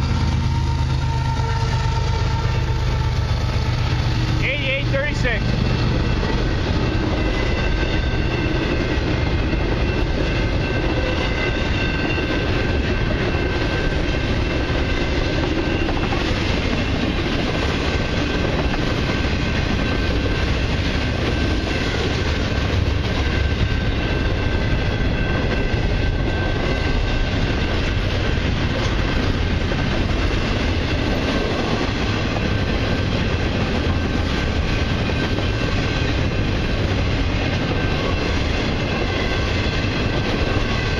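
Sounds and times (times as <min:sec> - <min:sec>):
clickety-clack at rail joints: 0:00.0 - 0:40.9
train wheels rumbling on rail: 0:00.0 - 0:40.9.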